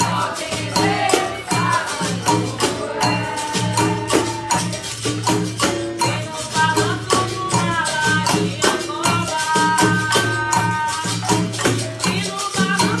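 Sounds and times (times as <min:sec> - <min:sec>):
berimbaus pandeiro and rattles rhythm: 0:00.0 - 0:13.0.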